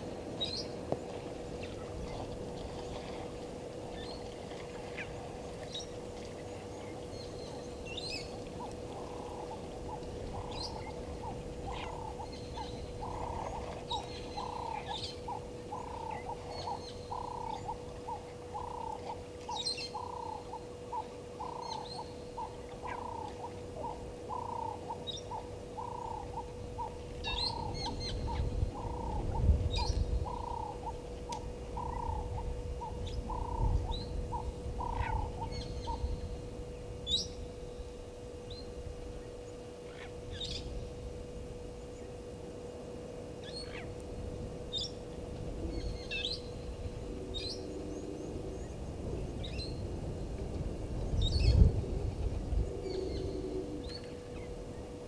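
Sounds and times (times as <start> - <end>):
faint steady hum: 0.0 - 55.0
low rumbling noise: 0.0 - 55.0.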